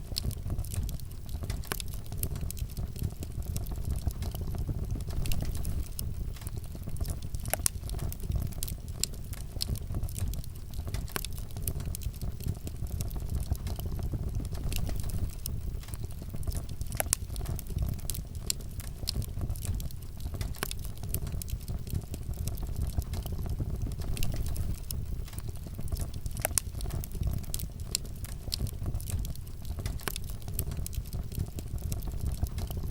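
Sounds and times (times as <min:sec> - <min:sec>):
low rumble of flames: 0:00.0 - 0:32.9
wood fire crackling: 0:00.0 - 0:32.9.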